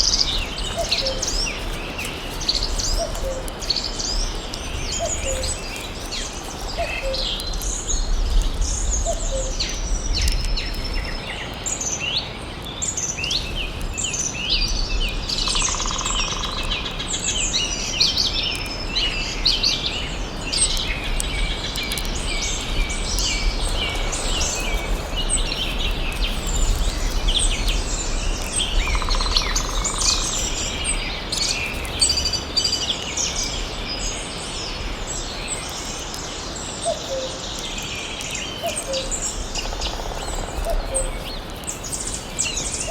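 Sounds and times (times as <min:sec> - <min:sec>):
birds chirping and singing: 0:00.0 - 0:42.9.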